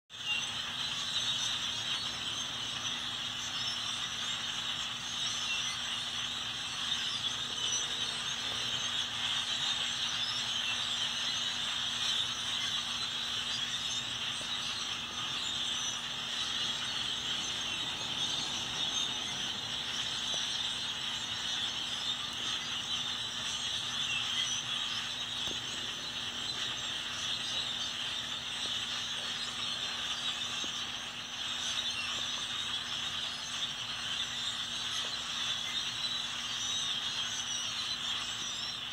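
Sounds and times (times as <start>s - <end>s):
flock of birds calling: 0.1s - 38.9s.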